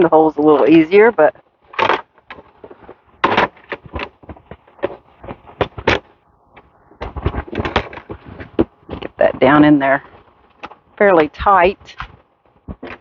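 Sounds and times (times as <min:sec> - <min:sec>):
wire clicking and rattling: 0:00.4 - 0:11.0.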